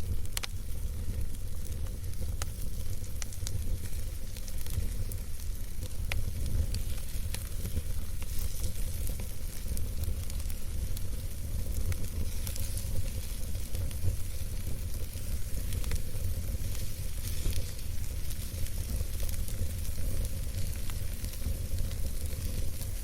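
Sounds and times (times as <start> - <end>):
campfire crackling and popping: 0.0 - 23.0
low rumble of flames: 0.0 - 23.0.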